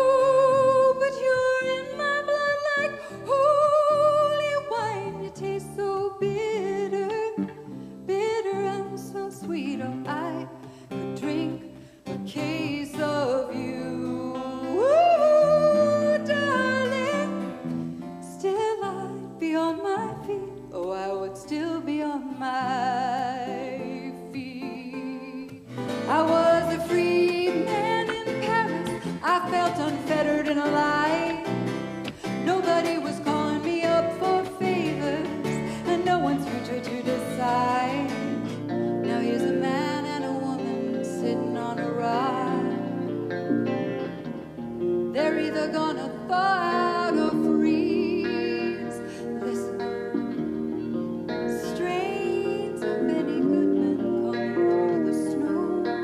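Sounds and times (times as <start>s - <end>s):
guitar: 0.0s - 56.0s
woman singing a ballad: 0.0s - 56.0s.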